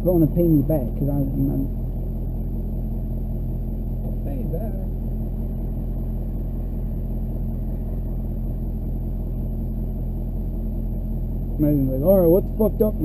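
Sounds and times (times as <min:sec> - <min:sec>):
pickup engine drone from inside: 0:00.0 - 0:13.0.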